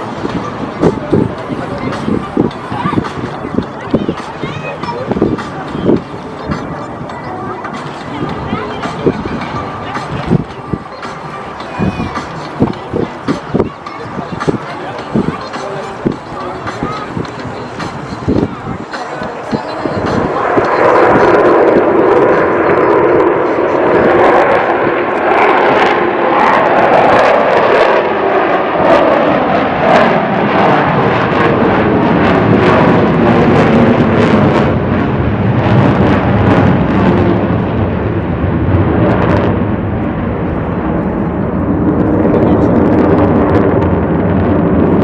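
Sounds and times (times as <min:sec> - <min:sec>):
aircraft engine flying over: 0:00.0 - 0:45.0.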